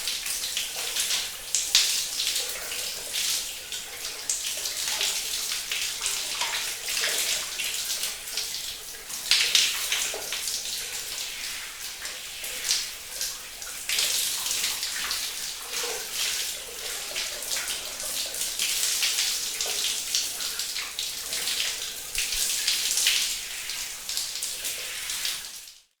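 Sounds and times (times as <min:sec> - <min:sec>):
shower water running: 0:00.0 - 0:25.9.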